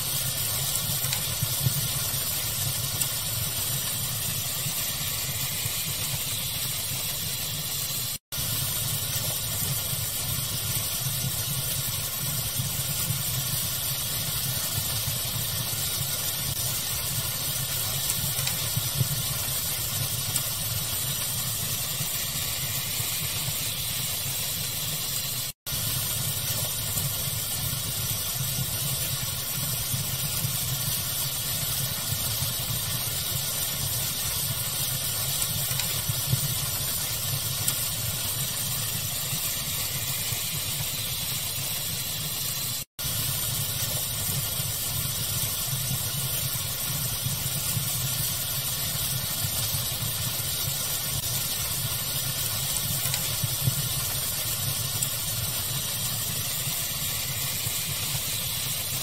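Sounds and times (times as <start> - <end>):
fire crackling hiss: 0.0 - 59.0.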